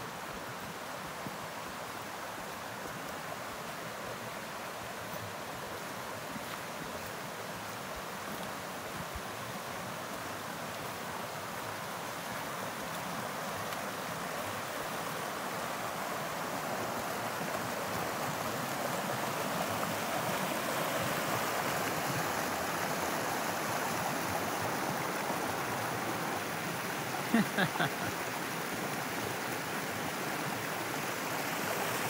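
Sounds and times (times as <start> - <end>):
creek water running: 0.0 - 32.0.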